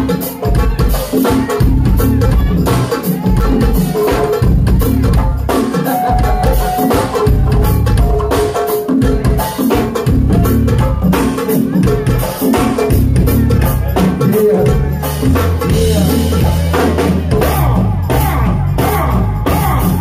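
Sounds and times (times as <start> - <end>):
drum beat: 0.0 - 20.0
heavy bass line: 0.0 - 20.0.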